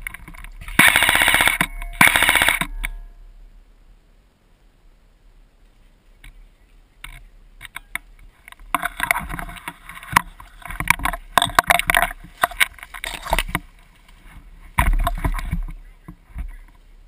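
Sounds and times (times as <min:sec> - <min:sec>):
gear and foliage rustling: 0:00.0 - 0:17.0.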